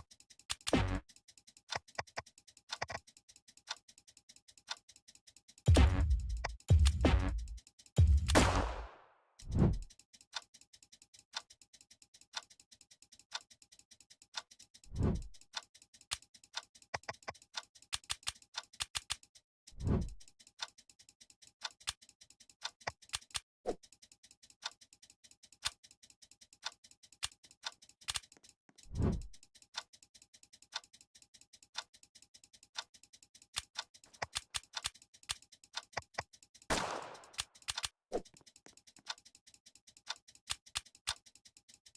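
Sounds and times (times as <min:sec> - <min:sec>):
irregular clicks: 0:00.0 - 0:08.7, 0:09.4 - 0:41.9
clock-like ticking: 0:00.0 - 0:08.8, 0:09.4 - 0:41.9.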